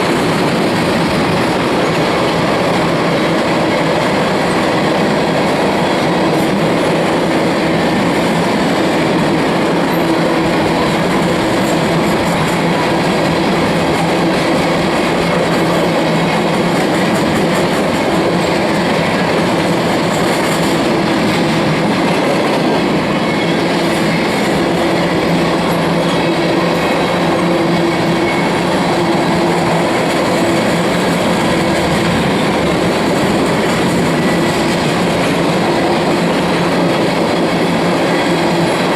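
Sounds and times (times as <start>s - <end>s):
steel wheels on rails: 0.0s - 38.9s.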